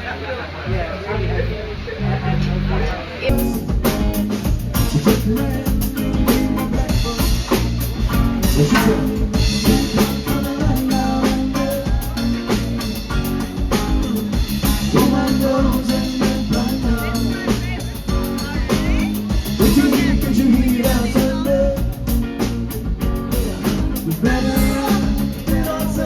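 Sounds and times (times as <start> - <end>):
pop music with drum beat: 3.3 - 26.0.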